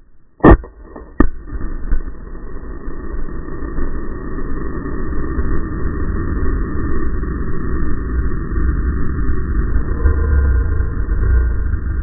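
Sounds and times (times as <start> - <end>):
low steady rumbling: 0.0 - 12.0.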